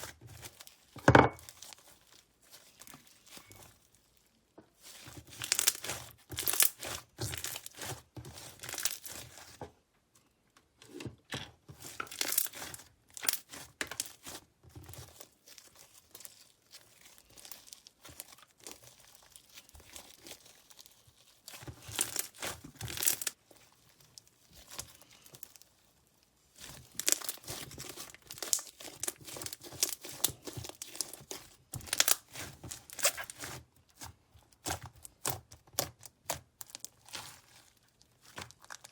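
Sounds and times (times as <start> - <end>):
slime crackling and popping: 4.8 - 9.6, 11.8 - 25.9, 26.5 - 38.9.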